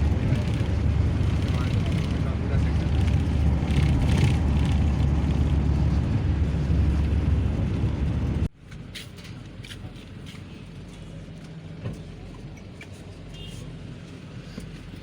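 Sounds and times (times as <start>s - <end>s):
road vehicle rumble: 0.0s - 15.0s.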